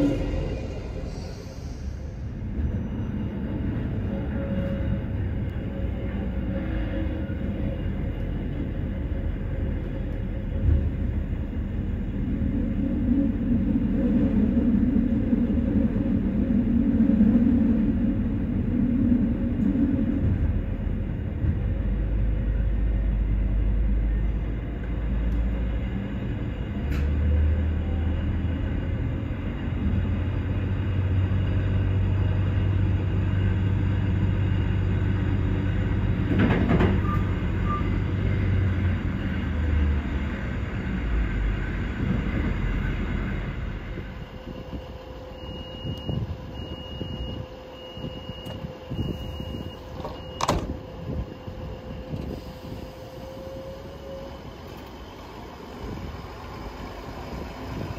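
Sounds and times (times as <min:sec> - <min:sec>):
diesel railcar engine rumble: 0:00.0 - 0:57.9.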